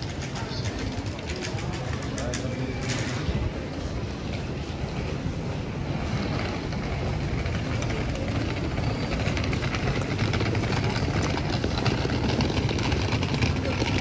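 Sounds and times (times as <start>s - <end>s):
suitcase wheels rolling over cobblestones: 0.0s - 14.0s.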